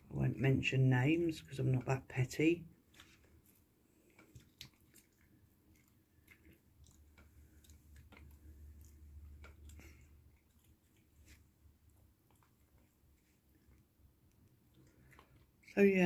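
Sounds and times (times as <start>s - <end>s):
animal chewing: 2.8s - 15.9s.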